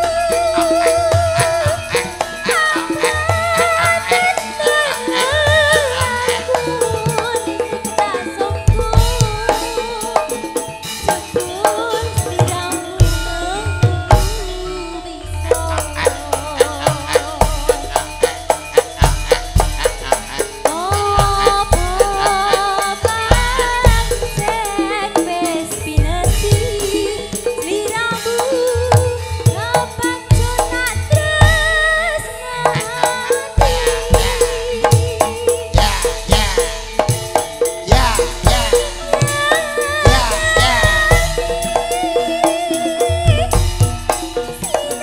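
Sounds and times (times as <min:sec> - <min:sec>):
bright metallic percussion: 0:00.0 - 0:45.0
hand drum strokes: 0:00.0 - 0:45.0
ringing metallophone tones: 0:00.0 - 0:45.0
wavering melody line: 0:00.0 - 0:45.0
woman singing into a microphone: 0:00.0 - 0:45.0.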